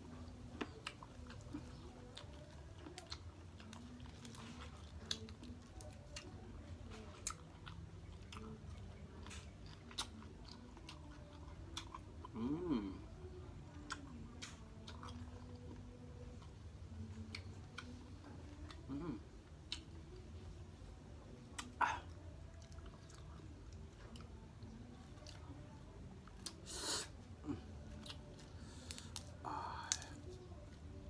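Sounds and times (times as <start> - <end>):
close chewing and biting: 0.0 - 20.7, 21.3 - 31.0.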